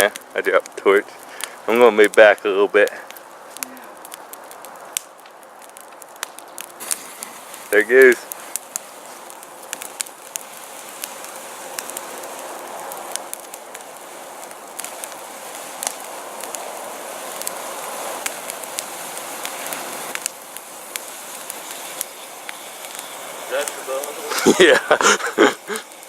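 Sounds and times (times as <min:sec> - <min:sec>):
fire crackling and popping: 0:00.0 - 0:26.0
fire rushing: 0:00.0 - 0:26.0.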